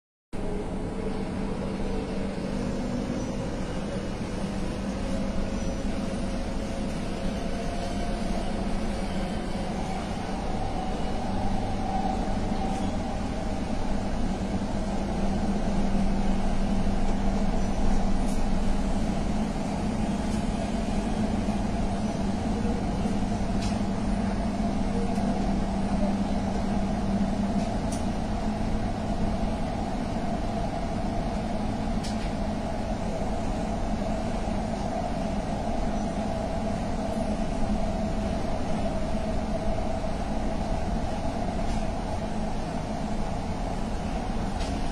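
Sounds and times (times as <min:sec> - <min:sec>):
metro train hum and rolling: 0:00.4 - 0:44.9.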